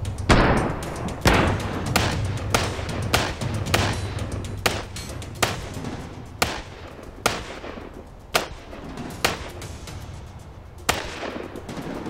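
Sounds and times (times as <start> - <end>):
pistol shots: 0.3 - 10.0, 10.8 - 12.0.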